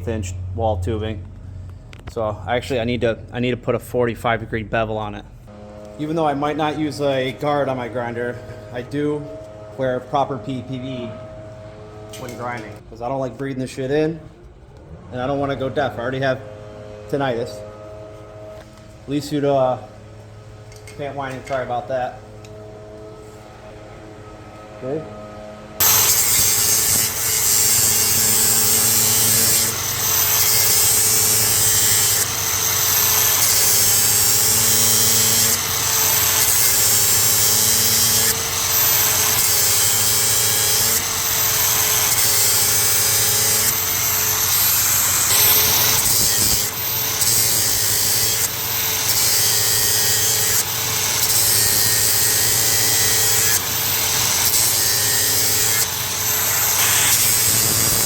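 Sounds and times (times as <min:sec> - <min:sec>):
angle grinder grinding steel: 0:05.5 - 0:12.9, 0:15.0 - 0:58.0.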